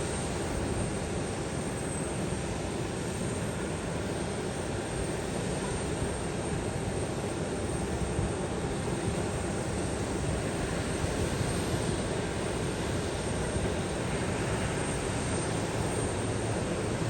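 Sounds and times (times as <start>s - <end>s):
aircraft engine rushing: 0.0s - 17.0s.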